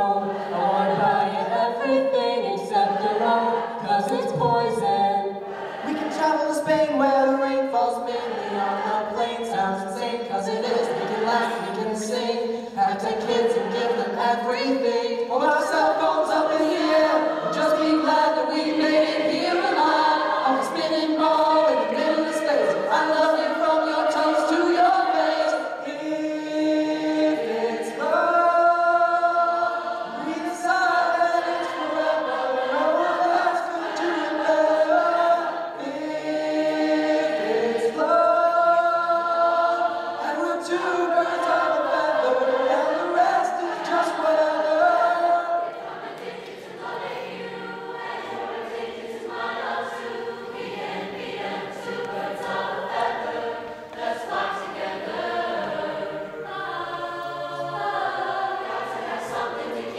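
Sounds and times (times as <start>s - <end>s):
mixed choir singing chords: 0.0s - 59.9s.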